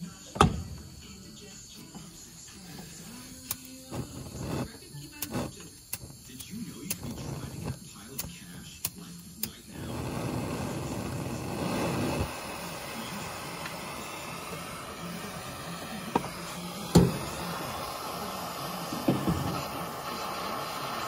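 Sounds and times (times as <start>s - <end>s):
gas torch flame hissing: 0.0s - 21.0s.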